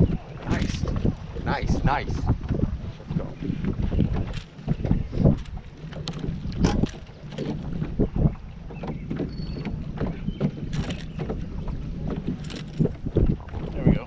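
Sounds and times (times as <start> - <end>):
wind on microphone: 0.0 - 14.0
short knocks and bumps: 0.4 - 14.0.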